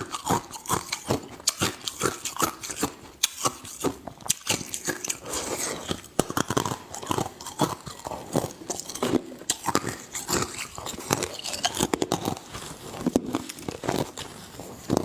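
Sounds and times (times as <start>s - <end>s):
person chewing ice: 0.0s - 15.0s.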